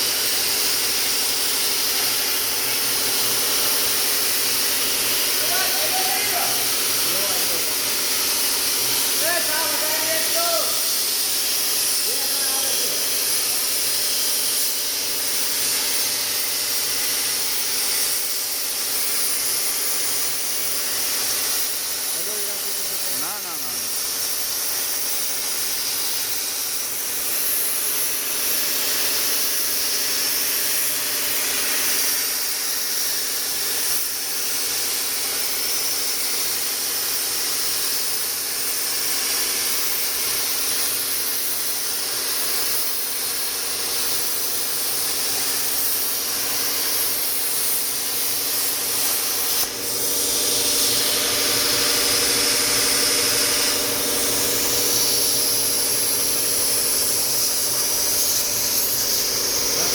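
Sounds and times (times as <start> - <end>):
plasma torch hissing: 0.0 - 59.9.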